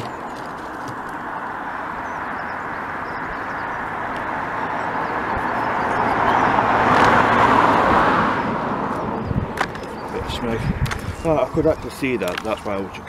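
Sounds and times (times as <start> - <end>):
road traffic rushing: 0.0 - 13.0
vehicle approaching: 0.0 - 13.0.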